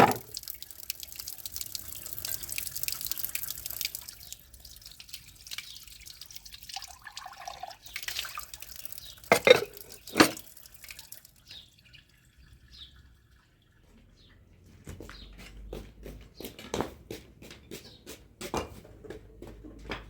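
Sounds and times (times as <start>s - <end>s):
water dripping and splashing: 0.0s - 16.6s.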